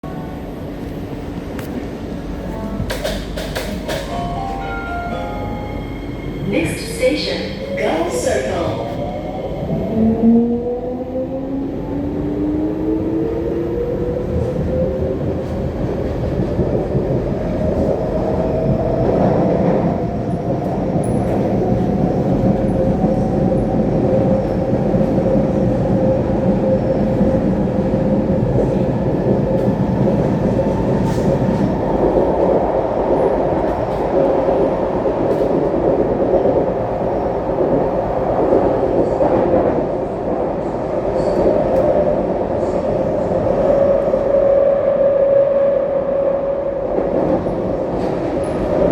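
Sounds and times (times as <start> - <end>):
train wheels rumbling on track: 0.0 - 10.8, 11.4 - 48.9.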